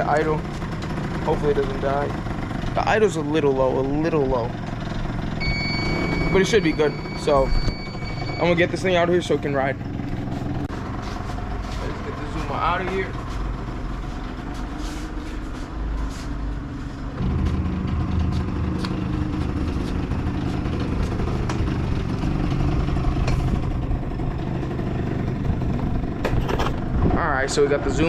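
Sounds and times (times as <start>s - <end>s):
scooter engine idling: 0.0s - 27.1s.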